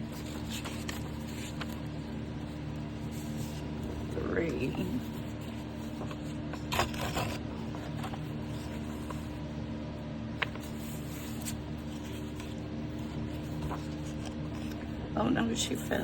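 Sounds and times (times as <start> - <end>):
paper rustling: 0.0 - 9.6, 10.4 - 16.0
steady low hum: 0.0 - 16.0.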